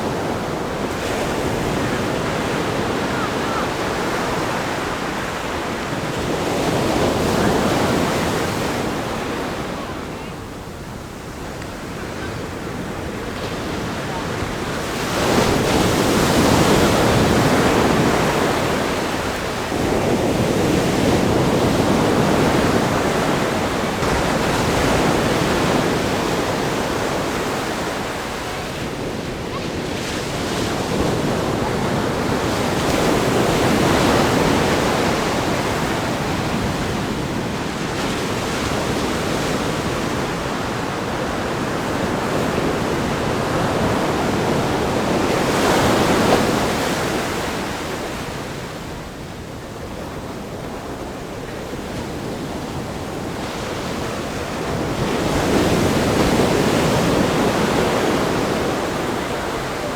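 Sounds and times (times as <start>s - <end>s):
ocean waves breaking on rocks: 0.0s - 59.9s.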